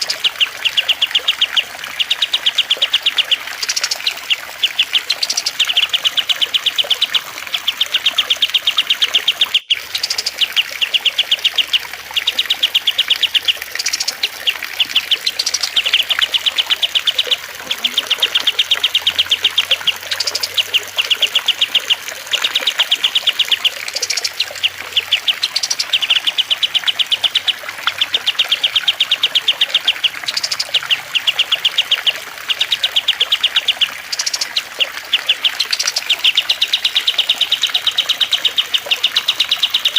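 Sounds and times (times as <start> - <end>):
faint trickling water: 0.0 - 39.9
songbirds trilling: 0.0 - 39.9.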